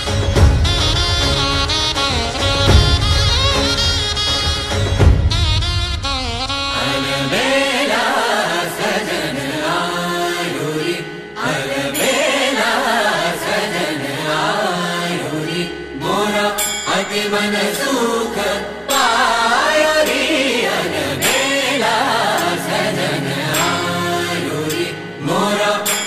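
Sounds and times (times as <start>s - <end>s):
music with sung melody: 0.0s - 26.0s.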